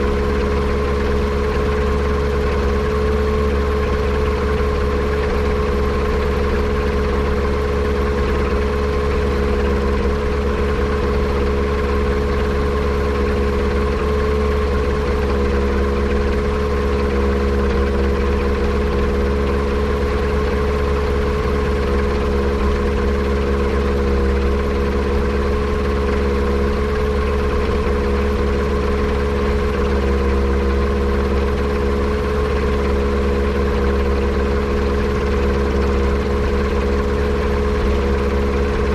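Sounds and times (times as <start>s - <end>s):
aircraft engine running steadily: 0.0s - 38.9s.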